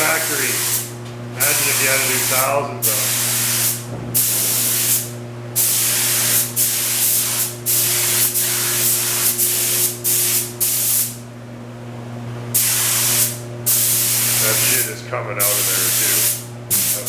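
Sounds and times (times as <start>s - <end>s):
steady hum: 0.0s - 17.0s
spray gun spraying paint: 0.1s - 11.2s, 12.5s - 14.8s, 15.4s - 17.0s.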